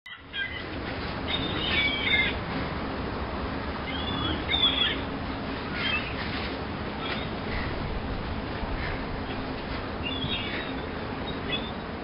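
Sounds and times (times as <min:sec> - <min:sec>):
birds chirping: 0:00.1 - 0:02.5, 0:03.7 - 0:08.0, 0:08.6 - 0:12.0
steady background hiss: 0:00.1 - 0:12.0.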